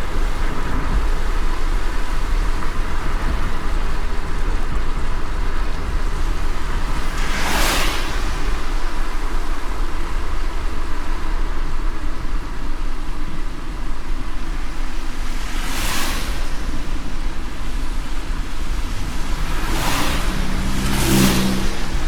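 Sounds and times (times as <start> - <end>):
moving car rumble and road hiss: 0.0 - 22.0.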